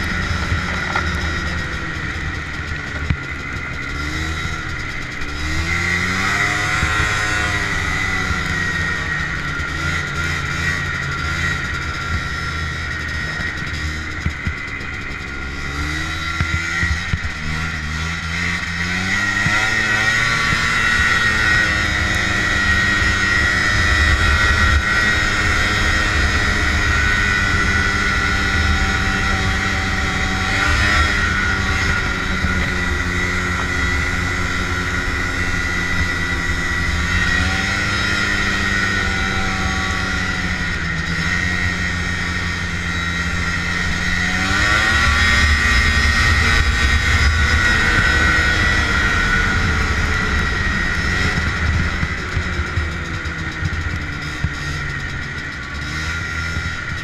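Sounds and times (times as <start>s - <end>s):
high whine: 0.0s - 57.0s
snowmobile engine running: 0.0s - 57.0s.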